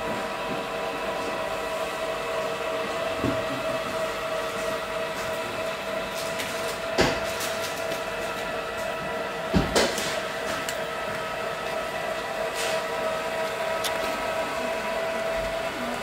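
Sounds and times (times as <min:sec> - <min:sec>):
electric hoist motor whining: 0:00.0 - 0:16.0.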